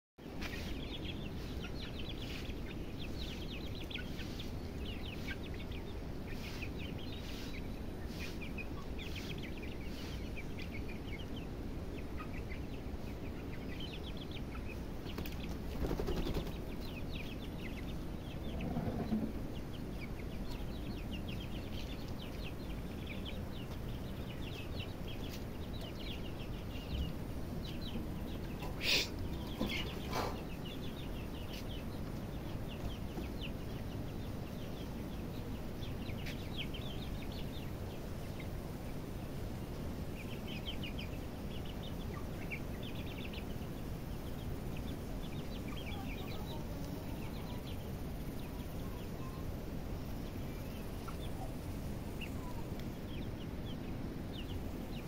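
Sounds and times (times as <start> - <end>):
chicks peeping: 0.2 - 55.0
steady low background noise: 0.2 - 55.0.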